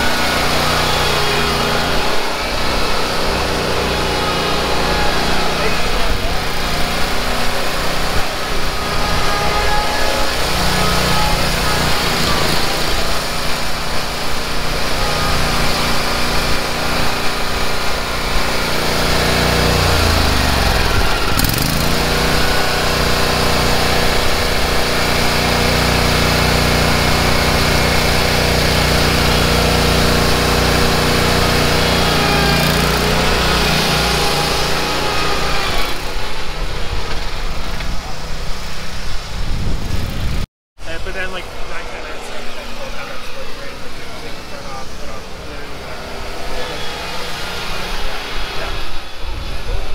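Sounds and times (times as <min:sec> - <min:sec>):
mower engine running: 0:00.0 - 0:49.9.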